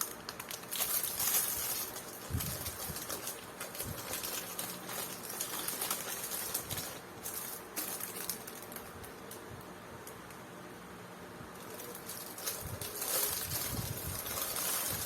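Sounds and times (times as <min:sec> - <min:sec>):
faint rustling of packaging: 0:00.0 - 0:10.4, 0:11.5 - 0:15.0.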